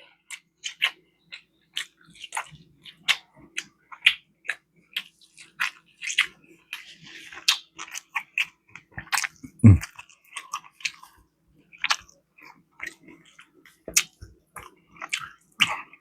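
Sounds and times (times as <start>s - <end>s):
wet chewing and lip-smacking: 0.2s - 16.0s.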